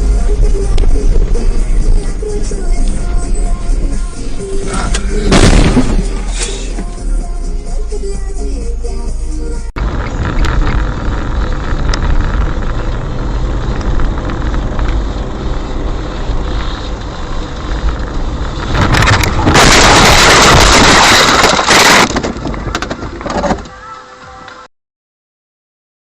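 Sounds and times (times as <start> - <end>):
road and engine noise: 0.0 - 24.7.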